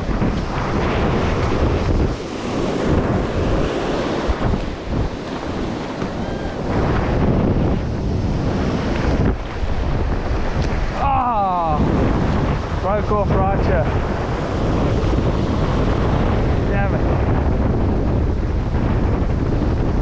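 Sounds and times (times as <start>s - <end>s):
surf washing onto beach: 0.0s - 20.0s
wind buffeting microphone: 0.0s - 20.0s.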